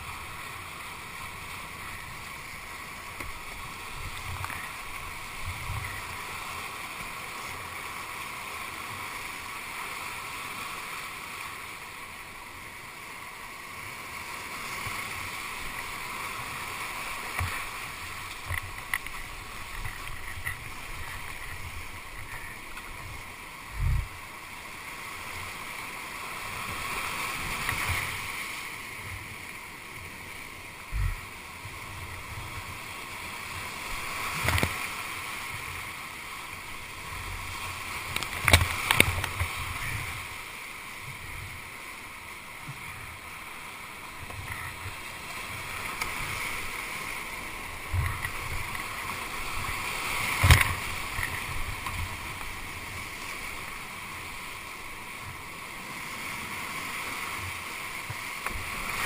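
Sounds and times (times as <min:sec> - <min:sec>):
water slapping a boat: 0:00.0 - 0:59.0
whitewater rapids rushing: 0:00.0 - 0:59.0.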